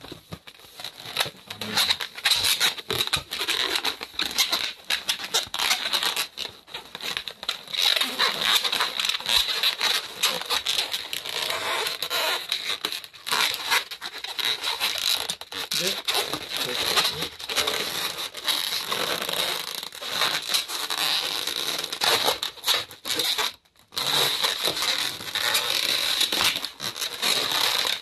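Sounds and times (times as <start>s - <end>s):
balloons squeaking and crackling: 0.0s - 28.0s.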